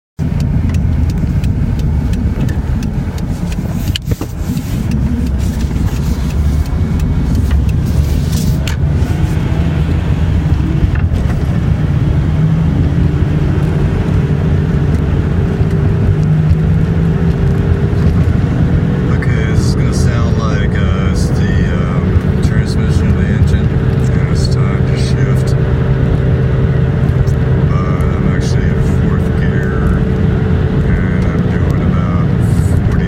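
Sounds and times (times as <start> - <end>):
moving car rumbling: 0.2 - 33.0.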